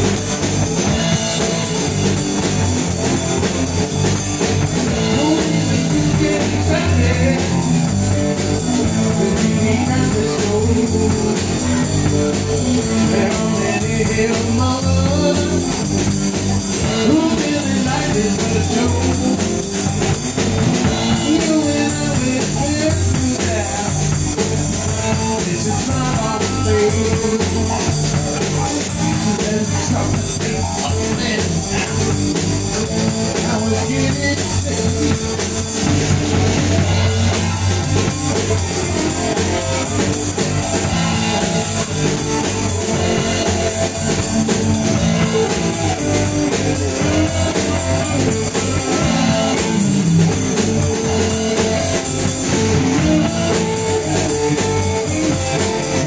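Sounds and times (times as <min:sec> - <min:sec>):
drum kit: 0:00.0 - 0:56.0
electric bass guitar: 0:00.0 - 0:56.0.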